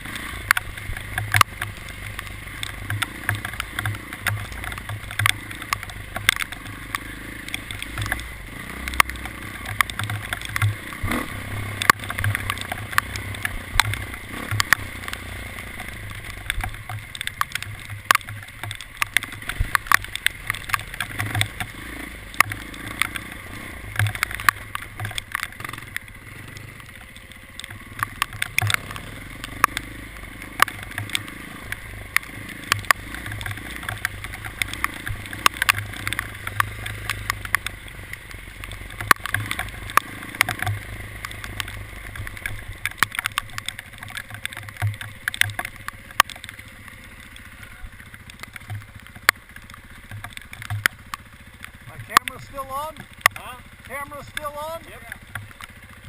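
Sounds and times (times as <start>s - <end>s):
sharp clicks and knocks: 0.0s - 56.0s
vehicle engine running: 0.0s - 56.0s.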